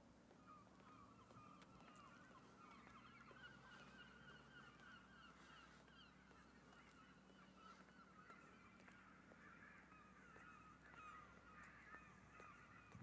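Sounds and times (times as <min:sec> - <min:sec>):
faint chorus of bird calls: 0:00.2 - 0:13.0.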